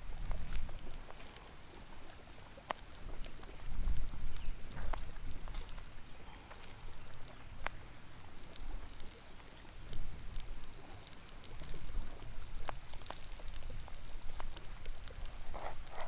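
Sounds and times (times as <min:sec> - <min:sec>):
onions crackling in a frying pan: 0:00.0 - 0:16.0.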